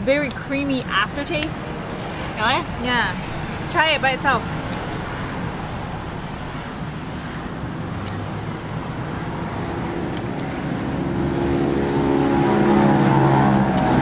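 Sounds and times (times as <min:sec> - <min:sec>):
large vehicle engine drone: 0:00.0 - 0:14.0
road traffic passing: 0:00.0 - 0:14.0.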